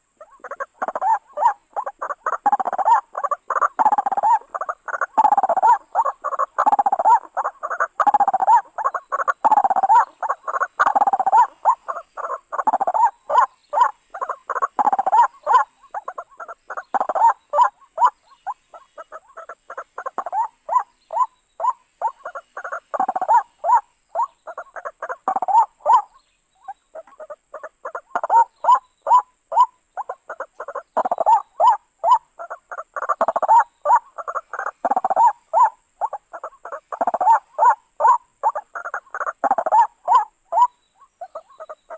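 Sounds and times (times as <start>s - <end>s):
bird croaking calls: 0.0s - 41.9s.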